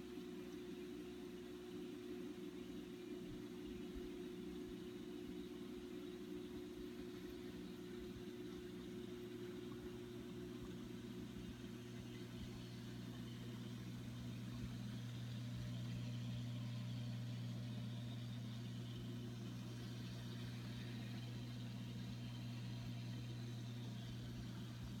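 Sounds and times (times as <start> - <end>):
pump hum: 0.0 - 25.0.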